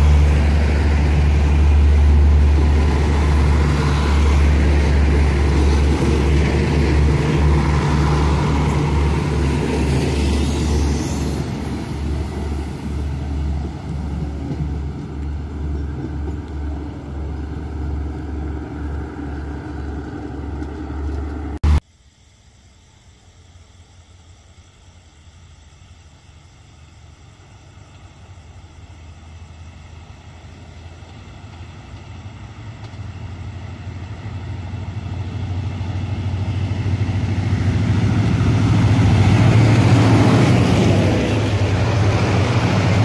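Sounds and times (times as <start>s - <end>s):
train coaches rumbling on rails: 0.0s - 21.8s, 27.0s - 43.0s.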